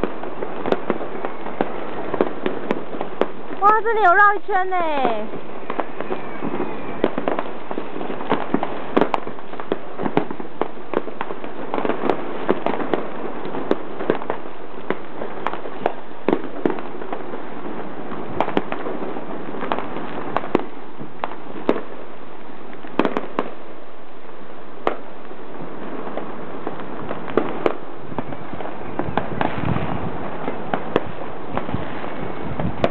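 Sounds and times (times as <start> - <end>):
sharp firework bangs: 0.0 - 23.9, 24.5 - 32.9
fireworks bursting: 0.0 - 32.9.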